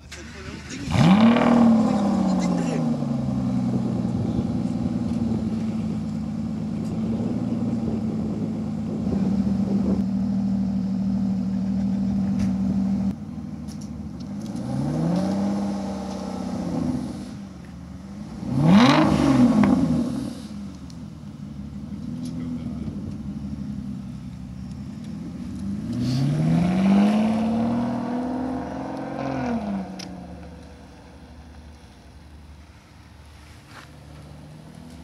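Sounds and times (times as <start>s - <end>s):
engine revving: 0.0s - 13.2s, 14.2s - 17.5s, 18.1s - 20.9s, 21.7s - 31.5s
car engine idling: 0.0s - 18.6s, 19.2s - 26.3s, 27.3s - 35.0s.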